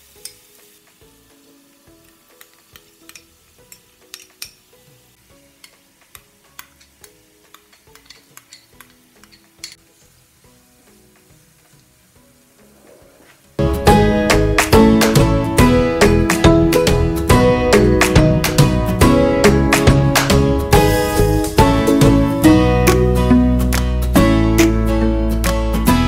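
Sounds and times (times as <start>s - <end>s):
food sizzling in oil: 0.0s - 23.2s
background music: 0.0s - 26.0s.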